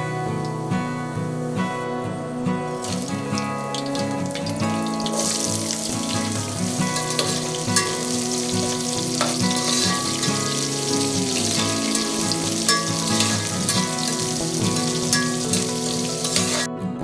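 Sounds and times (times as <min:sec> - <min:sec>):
background music: 0:00.0 - 0:17.0
food sizzling in oil: 0:02.7 - 0:16.7.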